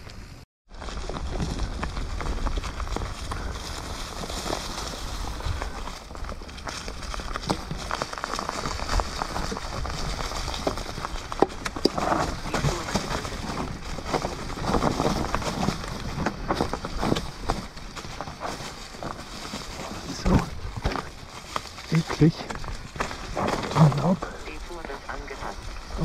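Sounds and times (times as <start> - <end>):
wind rumble on microphone: 0.1 - 21.5
mountain bike clacks and rattles: 0.7 - 24.2.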